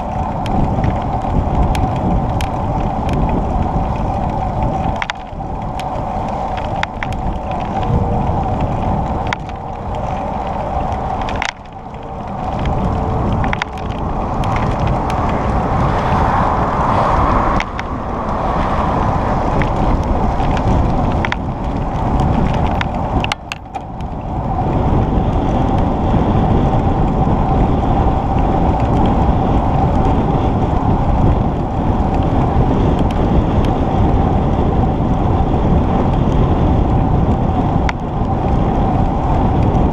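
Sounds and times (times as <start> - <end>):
bicycle rolling noise: 0.0 - 39.9
wind rush on microphone: 0.0 - 39.9.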